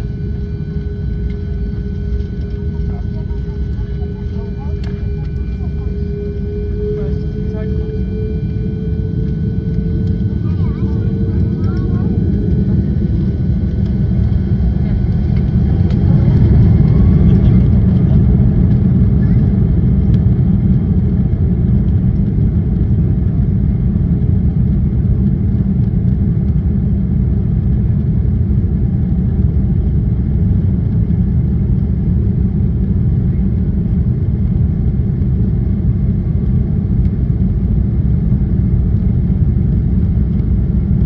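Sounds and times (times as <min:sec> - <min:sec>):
jet airliner cabin rumble: 0:00.0 - 0:41.0.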